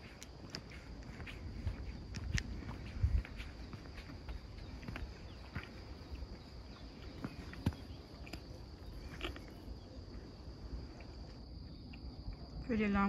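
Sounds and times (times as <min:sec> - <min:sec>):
footsteps crunching on dirt: 0:00.0 - 0:11.4
low wind rumble: 0:00.0 - 0:13.0.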